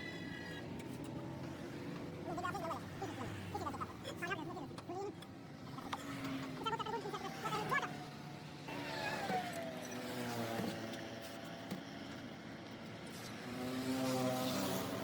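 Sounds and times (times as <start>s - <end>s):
vehicles passing on road: 0.0s - 15.0s.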